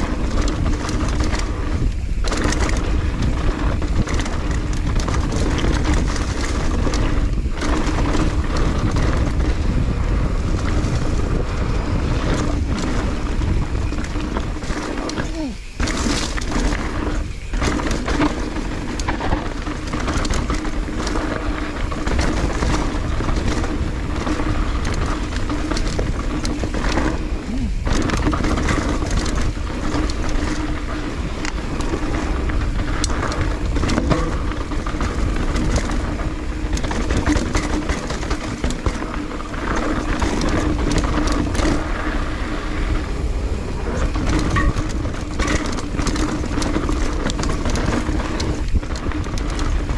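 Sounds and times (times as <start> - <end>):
bike chain and frame rattling: 0.0 - 49.9
bike tyres rolling over dirt: 0.0 - 49.9
wind on microphone: 0.0 - 49.9.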